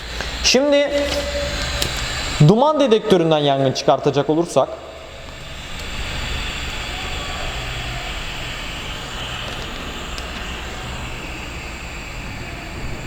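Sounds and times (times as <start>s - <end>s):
low hum: 0.0s - 13.0s
rushing hissing airflow: 0.0s - 13.0s.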